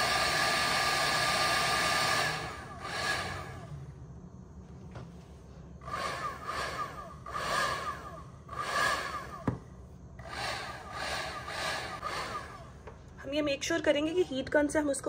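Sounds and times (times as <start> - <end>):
low motor hum: 0.0 - 13.3.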